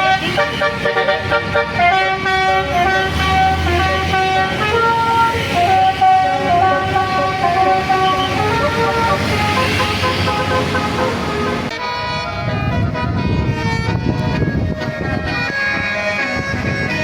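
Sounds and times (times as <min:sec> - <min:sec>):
bus engine running: 0:00.0 - 0:17.0
musical bus horn melody: 0:00.0 - 0:17.0.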